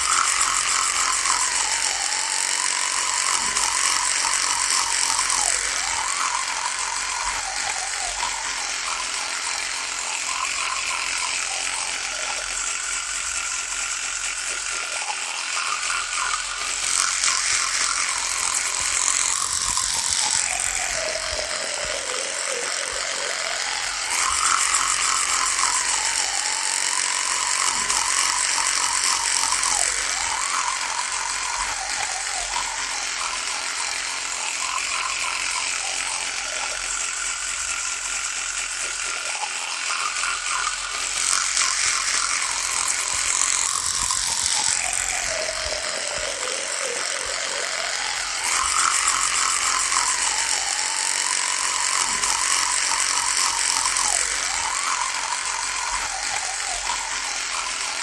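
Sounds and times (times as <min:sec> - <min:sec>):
electric toothbrush buzzing: 0:00.0 - 0:58.0.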